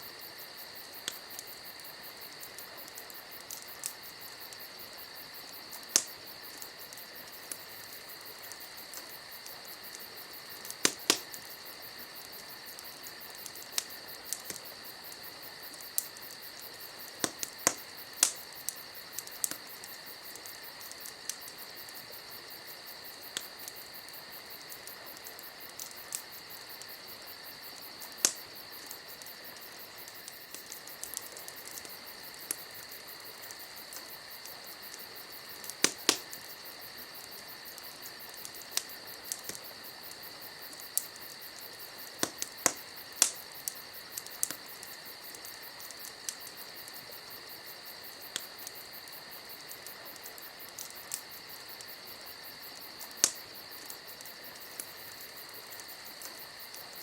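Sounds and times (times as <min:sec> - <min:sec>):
crickets chirping: 0:00.0 - 0:57.0
campfire popping and crackling: 0:00.1 - 0:57.0.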